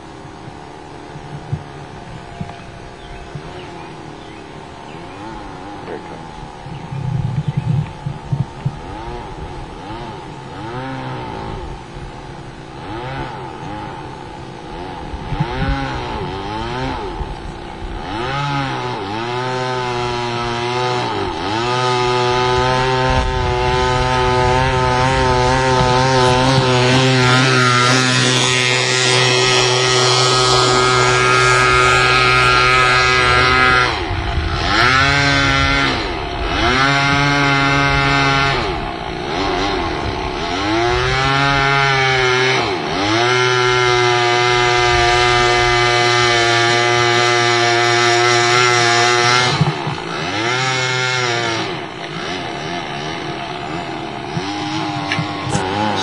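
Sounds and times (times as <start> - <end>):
two-stroke engine at high revs: 0.0 - 56.0.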